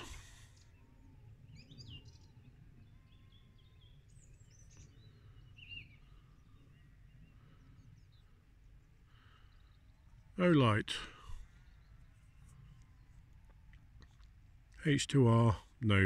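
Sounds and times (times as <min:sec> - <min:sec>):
faint bird chirps: 0:00.0 - 0:15.5.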